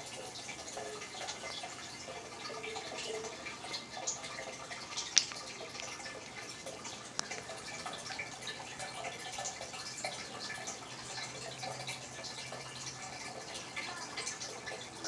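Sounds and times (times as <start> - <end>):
aquarium water bubbling and trickling: 0.0 - 15.0.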